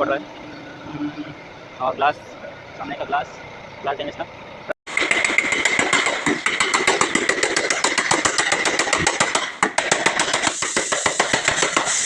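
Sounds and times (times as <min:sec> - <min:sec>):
small engine knocking with high whine: 0:00.0 - 0:12.0.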